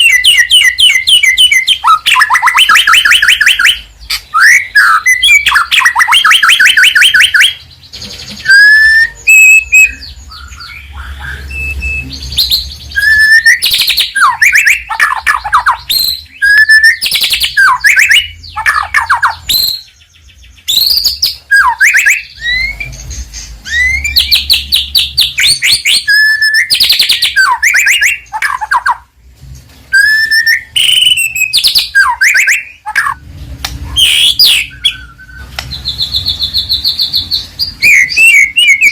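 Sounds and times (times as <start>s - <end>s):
bird singing trills and whistles: 0.0s - 29.1s, 29.8s - 38.9s.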